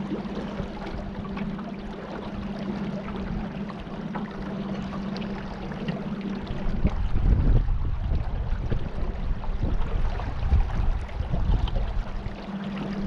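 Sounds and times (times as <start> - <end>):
boat motor humming: 0.0 - 13.0
water washing along hull: 0.0 - 13.0.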